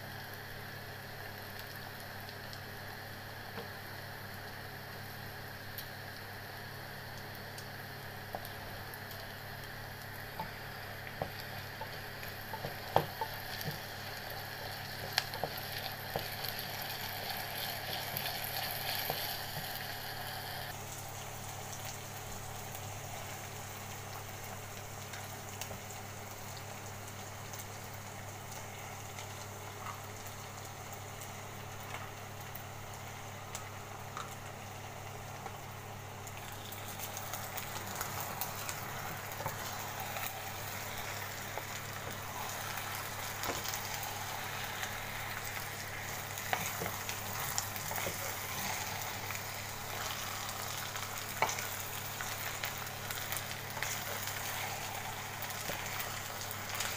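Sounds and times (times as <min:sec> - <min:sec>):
onions sizzling in oil: 0:00.0 - 0:56.9.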